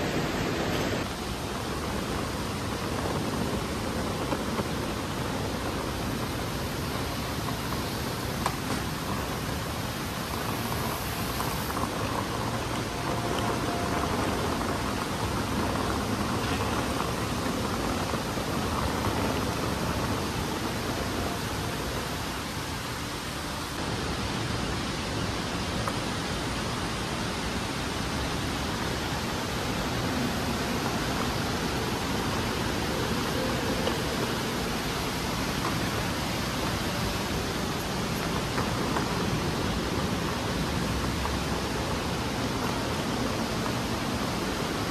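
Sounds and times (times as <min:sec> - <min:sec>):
steady rushing noise: 0:00.0 - 0:44.9.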